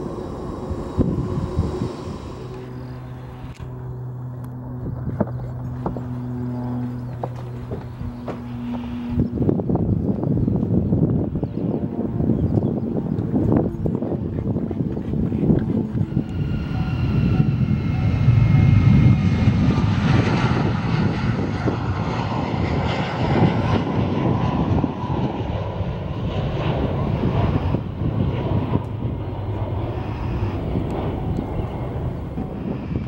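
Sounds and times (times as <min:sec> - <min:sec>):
jet airliner taking off: 0:00.0 - 0:33.0.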